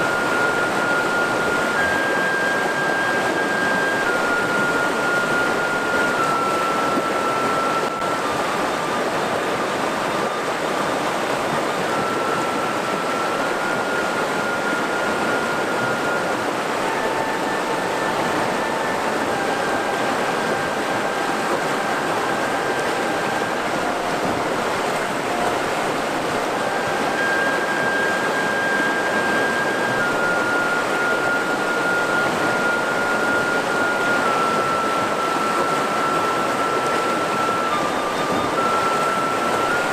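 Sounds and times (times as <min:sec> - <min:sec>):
faint long-held tones: 0:00.0 - 0:39.9
river rushing over rocks: 0:00.0 - 0:39.9.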